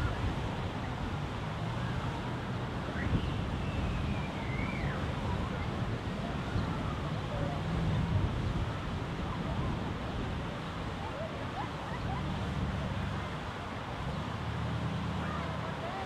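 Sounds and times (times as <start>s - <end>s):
faint distant voices: 0.0s - 16.0s
fountain splashing: 0.0s - 16.0s
traffic noise: 0.0s - 16.0s
wind: 0.0s - 16.0s.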